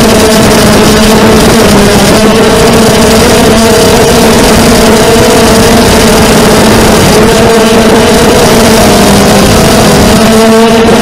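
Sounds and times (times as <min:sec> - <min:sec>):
propeller wash rushing: 0:00.0 - 0:11.0
quadcopter motors buzzing whine: 0:00.0 - 0:11.0.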